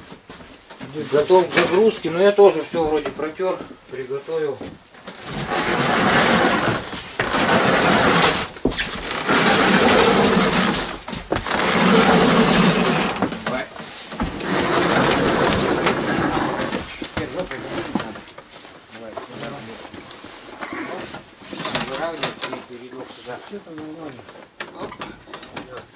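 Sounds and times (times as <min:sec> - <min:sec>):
tracked sled scraping over floorboards: 0:00.0 - 0:24.9.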